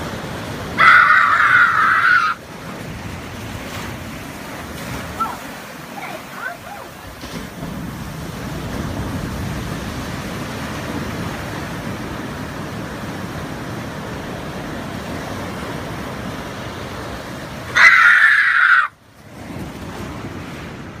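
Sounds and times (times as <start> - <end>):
ocean surf washing between rocks: 0.0 - 21.0.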